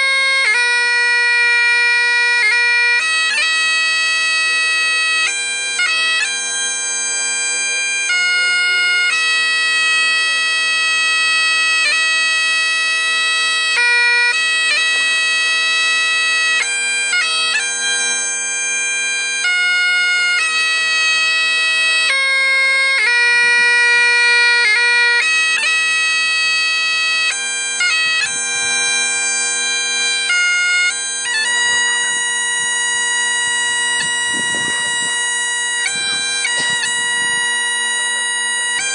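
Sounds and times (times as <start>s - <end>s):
bagpipes playing slow melody: 0.0s - 38.9s.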